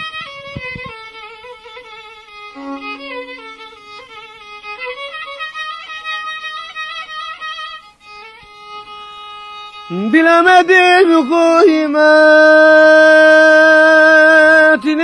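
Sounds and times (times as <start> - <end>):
violin melody with wide vibrato: 0.0 - 15.0.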